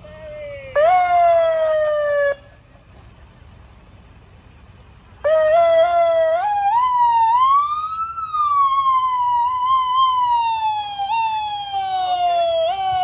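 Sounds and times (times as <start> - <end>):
emergency vehicle siren wailing: 0.0 - 2.6, 5.1 - 13.0.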